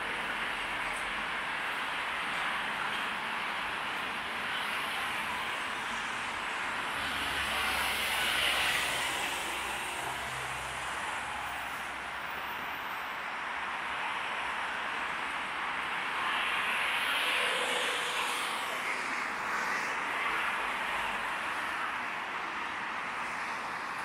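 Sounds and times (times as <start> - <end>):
road traffic tyre noise: 0.0 - 24.0.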